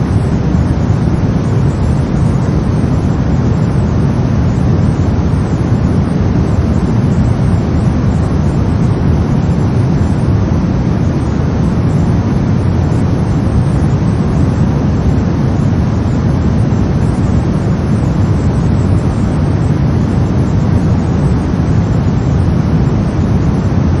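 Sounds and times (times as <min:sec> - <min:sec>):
brown noise: 0:00.0 - 0:24.0.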